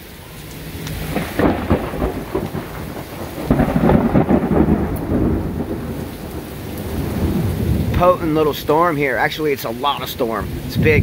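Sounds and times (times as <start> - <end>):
heavy rain: 0.0 - 11.0
thunder rumbling: 0.0 - 11.0.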